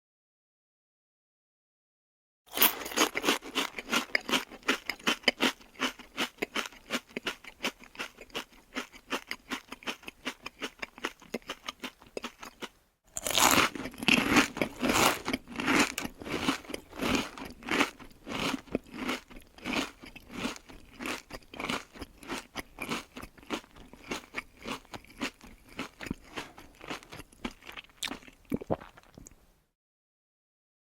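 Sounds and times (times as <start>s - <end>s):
cartoon chip munching: 2.5s - 29.4s.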